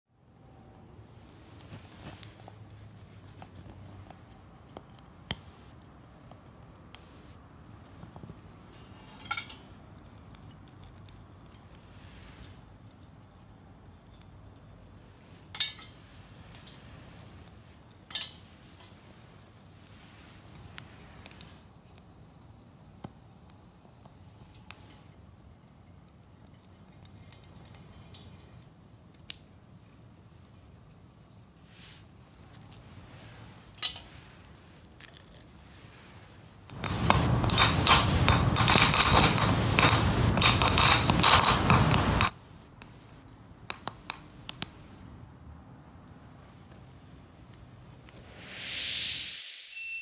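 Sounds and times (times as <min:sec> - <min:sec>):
wood fire crackling: 0:00.2 - 0:49.4.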